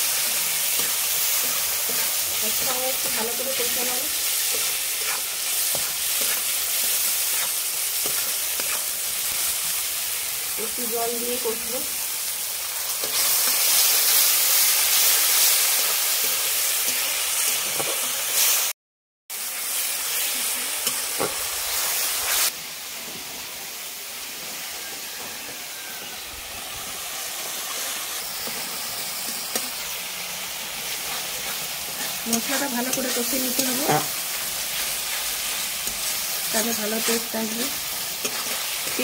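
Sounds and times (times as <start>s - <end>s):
masala sizzling and hissing in oil: 0.0s - 39.0s.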